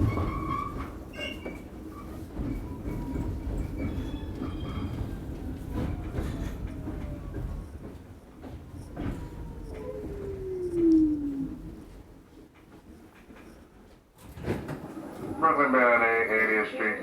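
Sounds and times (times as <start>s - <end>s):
rail joint clicks: 0.0s - 15.0s
wheels rumbling on rail: 0.0s - 16.8s.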